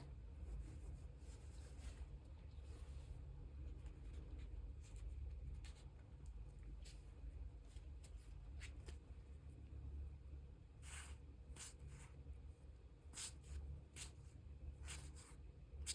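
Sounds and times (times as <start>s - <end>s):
low room hum: 0.0s - 15.9s.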